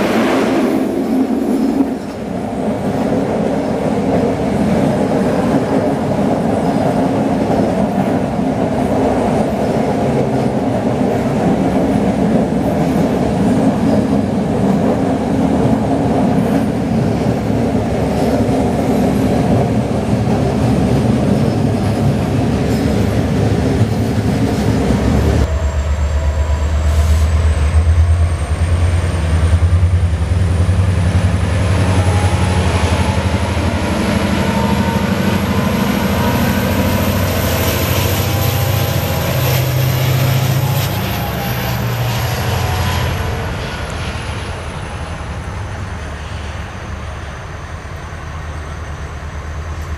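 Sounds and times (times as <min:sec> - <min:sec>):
diesel locomotive engine hum: 0:00.0 - 0:49.9
locomotive high whine: 0:00.0 - 0:49.9.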